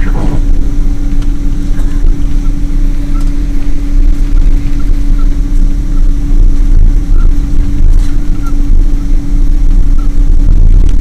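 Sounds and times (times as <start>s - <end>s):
airliner low rumble: 0.0s - 11.0s.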